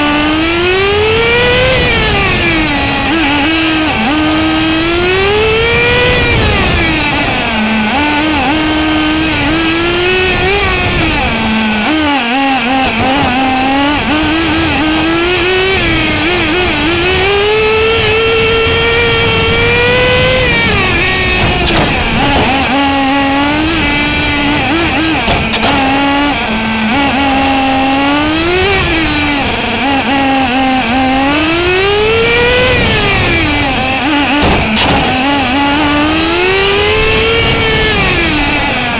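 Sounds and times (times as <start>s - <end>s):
small nitro engine revving: 0.0s - 38.9s.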